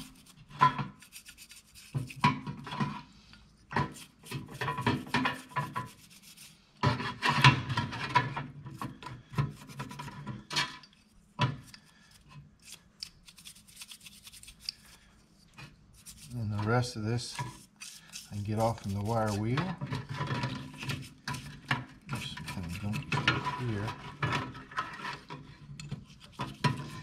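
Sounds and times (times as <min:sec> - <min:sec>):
hand tool scraping metal: 0:00.0 - 0:27.0.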